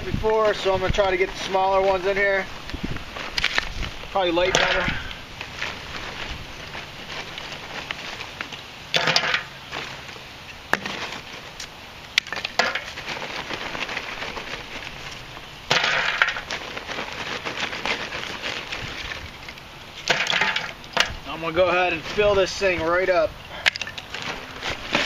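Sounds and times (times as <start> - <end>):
charcoal clinking and clattering: 3.3 - 22.8, 23.5 - 25.0.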